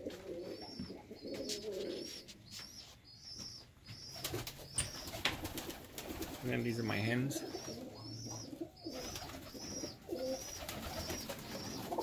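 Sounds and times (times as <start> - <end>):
pigeons cooing: 0.0 - 2.9, 4.0 - 12.0.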